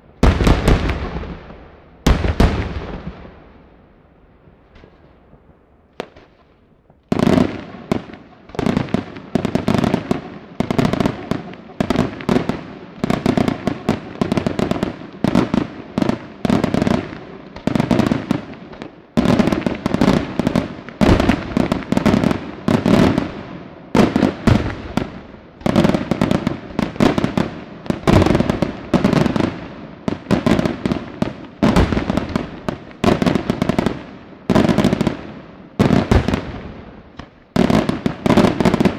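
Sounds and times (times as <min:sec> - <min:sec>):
fireworks bangs: 0:00.0 - 0:03.8, 0:04.4 - 0:38.9.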